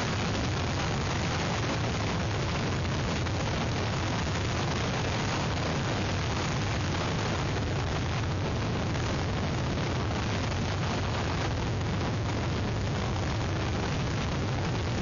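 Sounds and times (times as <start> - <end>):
rain: 0.0 - 15.0
wind blowing over microphone: 0.0 - 15.0.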